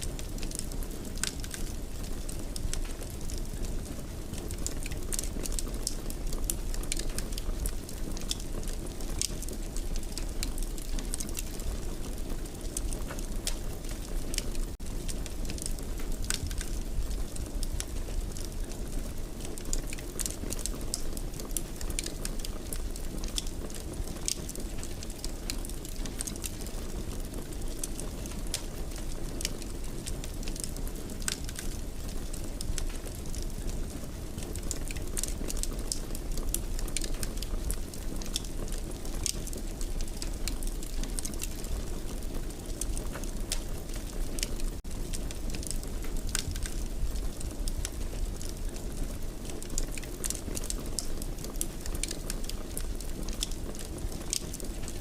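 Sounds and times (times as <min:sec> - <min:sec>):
fire crackles: 0:00.0 - 0:55.0
wood fire rumbling: 0:00.0 - 0:55.0.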